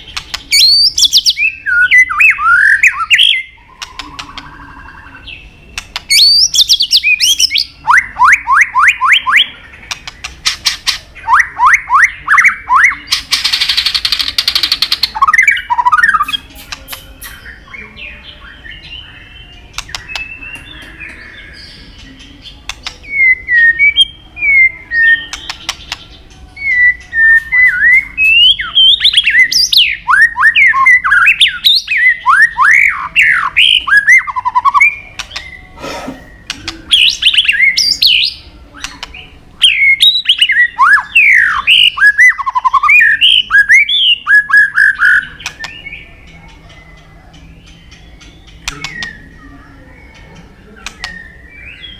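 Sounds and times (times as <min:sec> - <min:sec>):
bird singing whistled song: 0:00.0 - 0:51.9.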